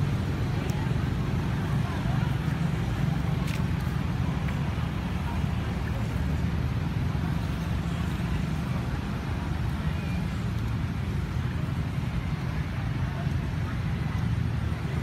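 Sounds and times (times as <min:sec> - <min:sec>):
low rumble of outdoor noise: 0:00.0 - 0:15.0.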